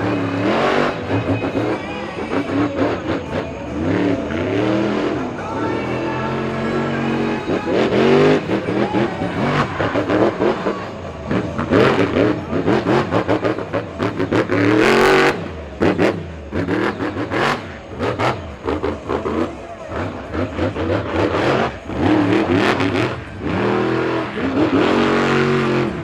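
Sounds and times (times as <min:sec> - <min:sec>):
loud rush of noise: 0:00.0 - 0:26.0
truck engine revving: 0:00.0 - 0:26.0.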